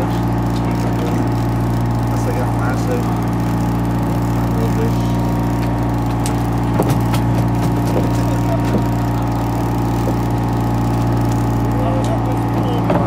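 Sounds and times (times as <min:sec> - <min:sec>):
boat diesel engine droning: 0:00.0 - 0:13.0.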